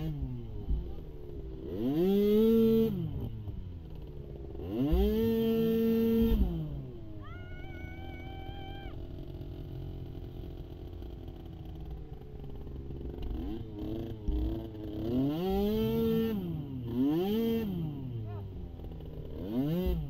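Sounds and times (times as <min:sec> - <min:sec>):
atv engine revving loudly: 0:00.0 - 0:20.0
small atv engines droning: 0:00.0 - 0:20.0.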